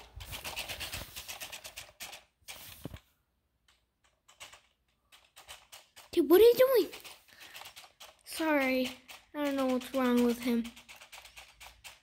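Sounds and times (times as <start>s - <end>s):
robot motors and wheels clicking: 0.0s - 3.0s, 3.6s - 12.0s.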